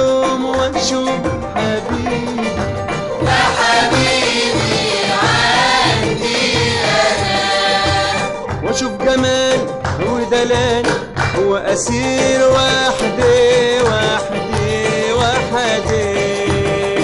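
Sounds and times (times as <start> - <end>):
percussion beat: 0.0 - 17.0.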